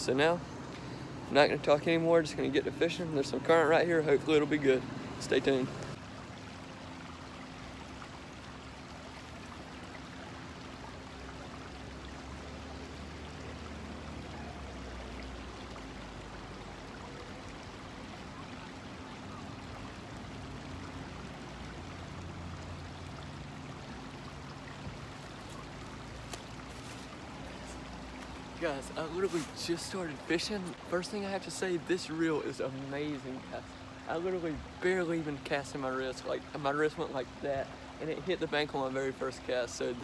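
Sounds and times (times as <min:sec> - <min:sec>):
creek water running over rocks: 0:00.0 - 0:40.0.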